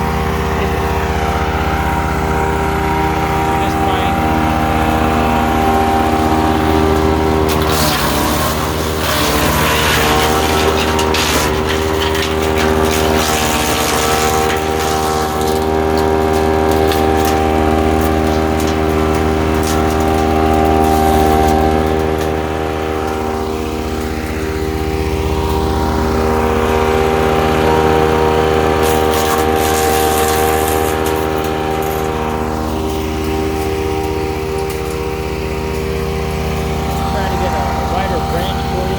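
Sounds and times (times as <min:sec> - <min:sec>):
branches crunching in chipper: 0:00.0 - 0:38.9
wood chipper engine running: 0:00.0 - 0:38.9.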